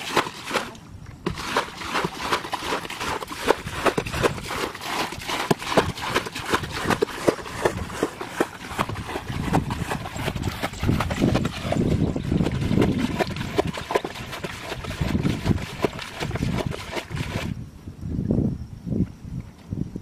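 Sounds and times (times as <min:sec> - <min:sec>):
bucket splashing water: 0:00.0 - 0:17.6
feet sloshing through water: 0:00.0 - 0:17.6.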